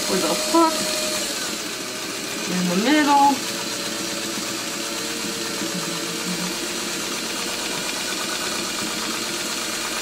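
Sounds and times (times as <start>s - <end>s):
sewing machine running: 0.0s - 10.0s.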